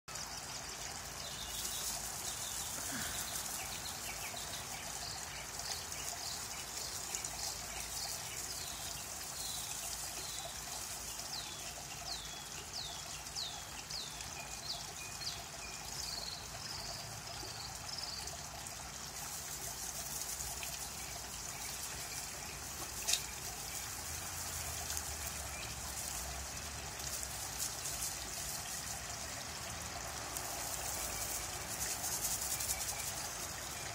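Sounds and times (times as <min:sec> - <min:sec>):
water trickling over stones: 0:00.1 - 0:33.9.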